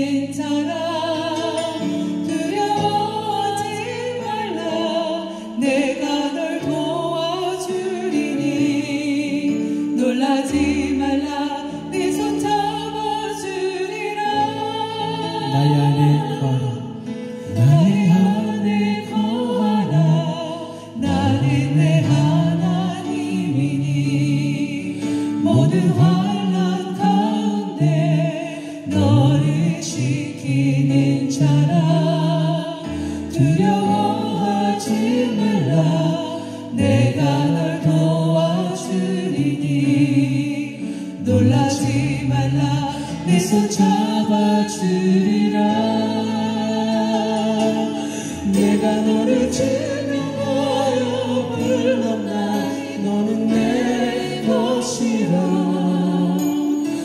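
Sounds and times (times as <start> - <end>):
vocal group singing in harmony: 0.0 - 57.0.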